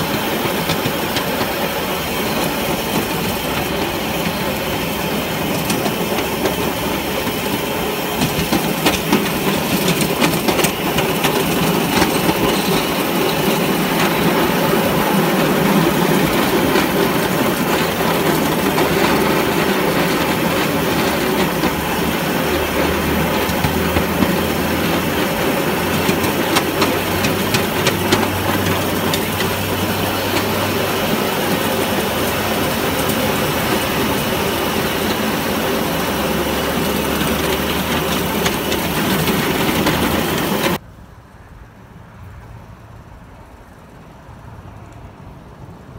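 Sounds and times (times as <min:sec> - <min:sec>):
wheels clicking over rail joints: 0:00.0 - 0:40.8
miniature train running on track: 0:00.0 - 0:41.4.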